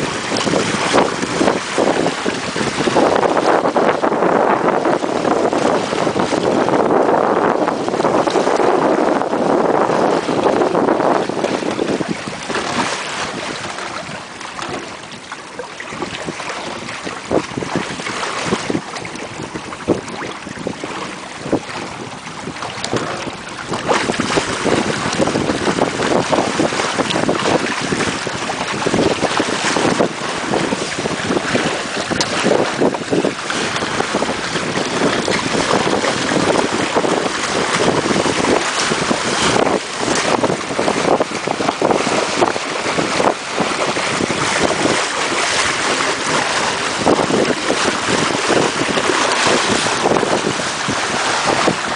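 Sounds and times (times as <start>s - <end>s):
water splashing against hulls: 0.0s - 51.9s
wind buffeting microphone: 0.0s - 51.9s.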